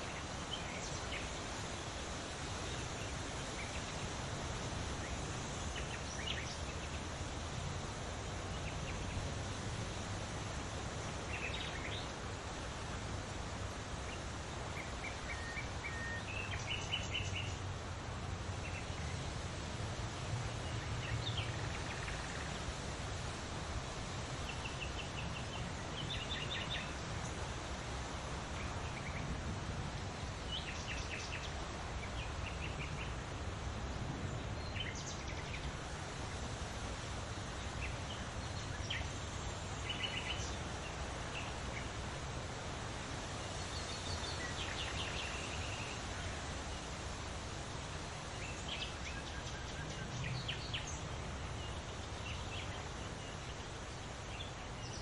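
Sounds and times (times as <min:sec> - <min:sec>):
outdoor background hiss: 0:00.0 - 0:55.0.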